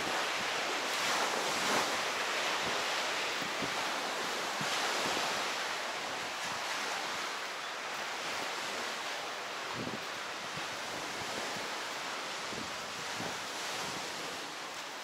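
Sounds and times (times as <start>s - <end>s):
small waves washing on shore: 0.0s - 15.0s
wind on microphone: 0.0s - 15.0s.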